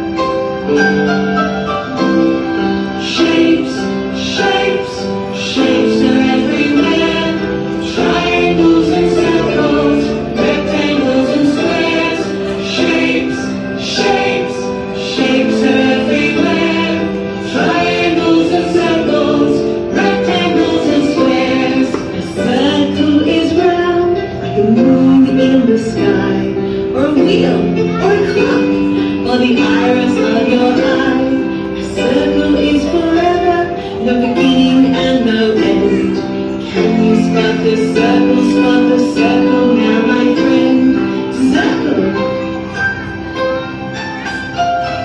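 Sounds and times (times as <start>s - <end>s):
children's song: 1.8s - 45.0s.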